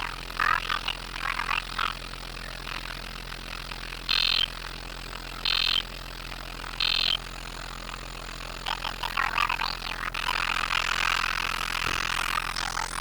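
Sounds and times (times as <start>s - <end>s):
warbling data-tone bursts: 0.0s - 13.0s.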